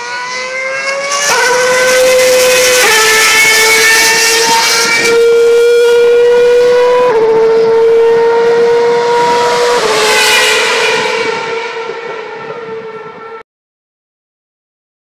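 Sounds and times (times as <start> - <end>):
racing car engine at high revs: 0.0 - 13.4.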